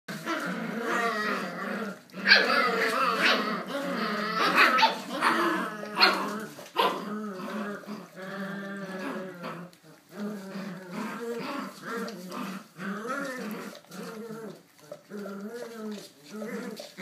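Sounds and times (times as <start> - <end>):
puppies growling: 0.1 - 17.0.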